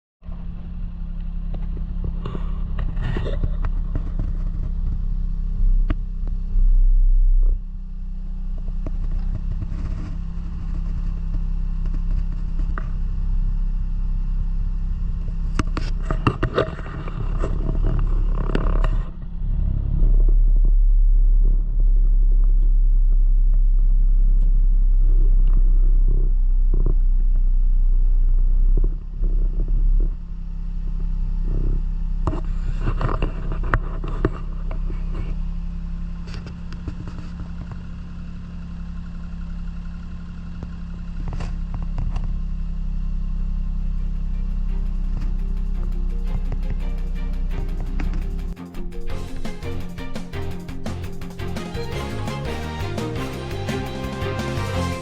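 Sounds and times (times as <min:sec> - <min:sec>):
car engine running: 0:00.2 - 0:55.0
deep rumble: 0:00.2 - 0:55.0.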